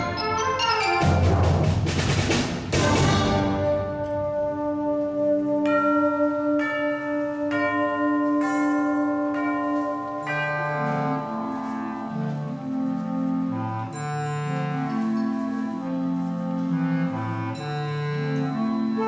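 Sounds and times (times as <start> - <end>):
mallet percussion bell-like notes: 0.0 - 1.9, 2.8 - 19.0
concert band playing softly: 0.0 - 19.0.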